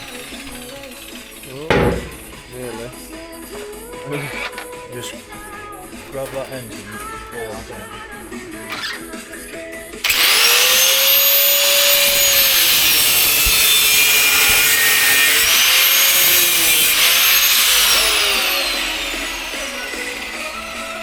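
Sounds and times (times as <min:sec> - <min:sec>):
power tool cutting rubber and metal: 0:00.0 - 0:07.2, 0:07.8 - 0:21.0.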